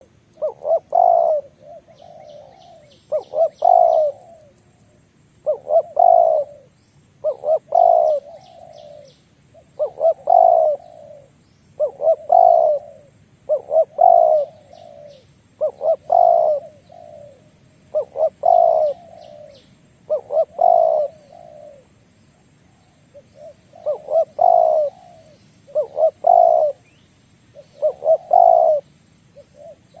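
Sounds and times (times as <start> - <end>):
dove cooing: 0.0 - 4.7, 5.4 - 30.0
small birds chirping: 0.0 - 30.0.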